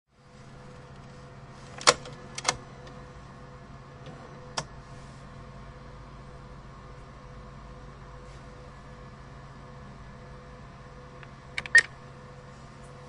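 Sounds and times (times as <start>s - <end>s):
cash machine hum: 0.2s - 13.0s.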